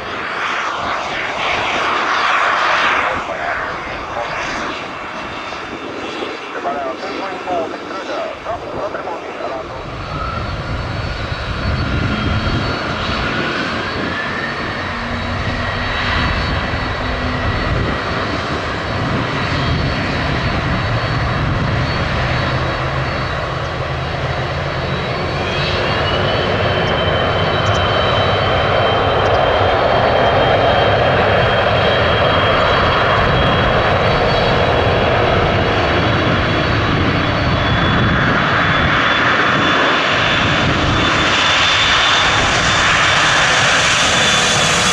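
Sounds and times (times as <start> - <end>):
jet engine roar: 0.0 - 44.9
jet engine whine rising: 0.0 - 44.9.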